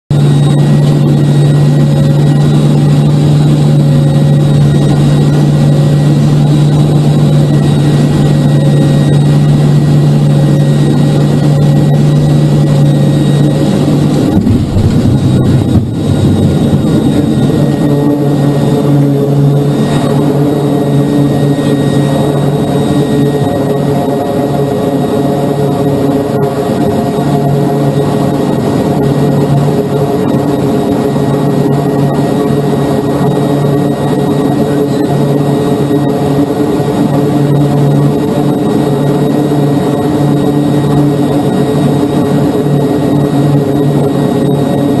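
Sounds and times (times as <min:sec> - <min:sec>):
aircraft touchdown rumble: 0:00.1 - 0:45.0
propeller drone: 0:00.1 - 0:45.0.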